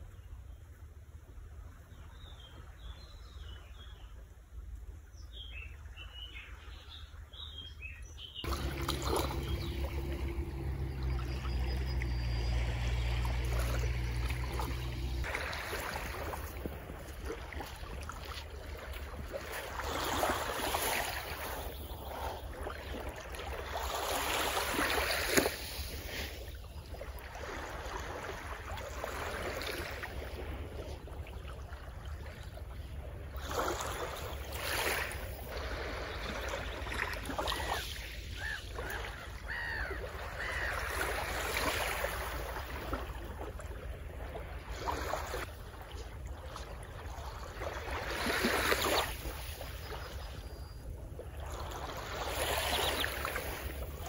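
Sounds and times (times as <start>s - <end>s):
small waves lapping on shore: 0.0s - 54.0s.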